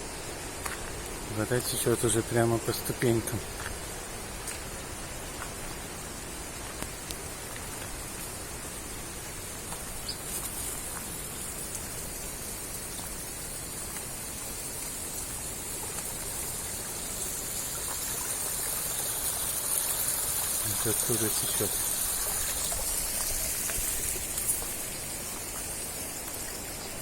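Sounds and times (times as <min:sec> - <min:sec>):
stream water splashing over stones: 0:00.2 - 0:27.0.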